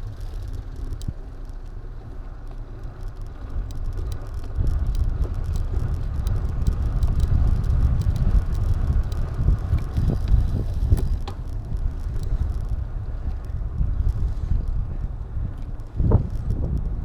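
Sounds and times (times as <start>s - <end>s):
light ticks and rattles: 0.0s - 17.0s
wind buffeting camera microphone: 0.0s - 17.0s.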